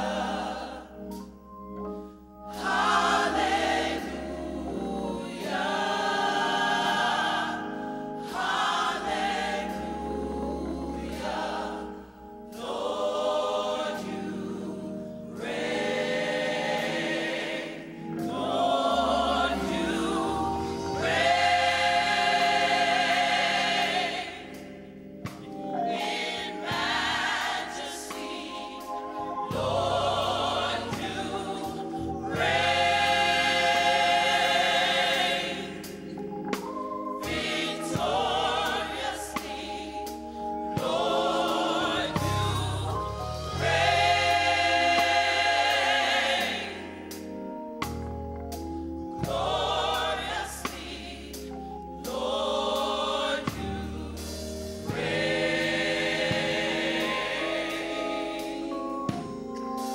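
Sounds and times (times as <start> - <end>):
gospel choir singing: 0.0 - 59.9
organ accompaniment: 0.0 - 59.9.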